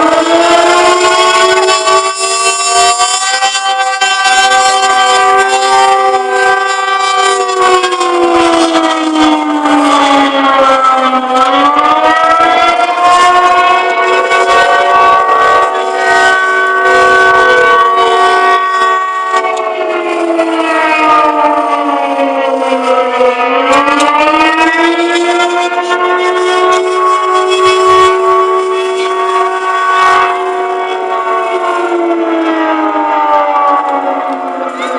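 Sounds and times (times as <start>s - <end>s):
hand-cranked air-raid siren wailing: 0.0s - 34.9s.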